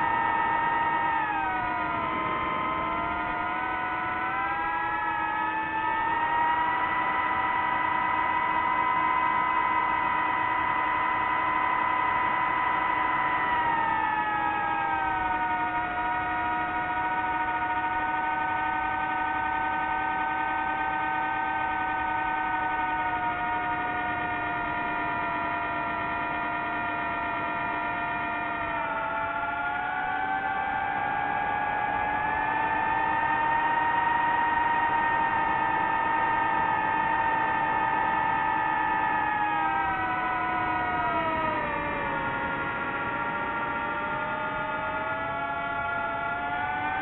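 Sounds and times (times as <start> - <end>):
drone propellers whining: 0.0 - 47.0.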